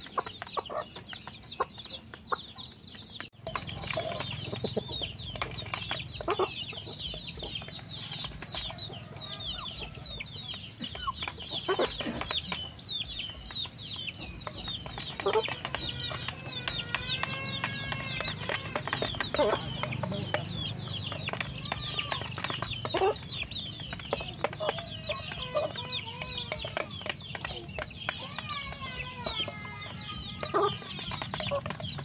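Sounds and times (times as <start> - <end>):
chicks peeping: 0.0 - 32.0
hens clucking: 0.0 - 32.0.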